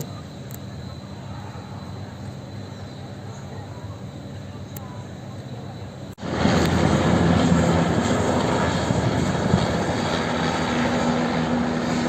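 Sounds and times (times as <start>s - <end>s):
helicopter flying low overhead: 0.0s - 12.0s.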